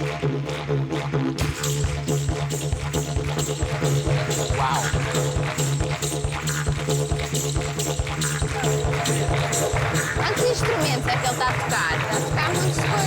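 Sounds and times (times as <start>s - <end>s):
didgeridoo rhythmic drone: 0.0s - 13.0s
fast driving beat: 1.4s - 13.0s.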